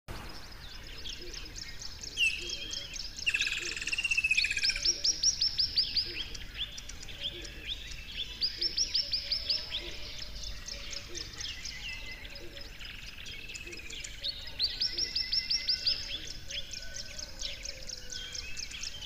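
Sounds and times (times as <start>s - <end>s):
bird trill: 0.1s - 19.0s
songbirds singing: 0.1s - 19.0s.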